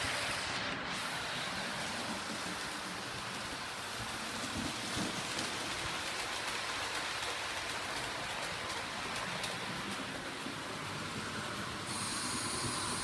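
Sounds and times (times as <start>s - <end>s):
model train wheels rattling on rails: 0.0s - 13.0s.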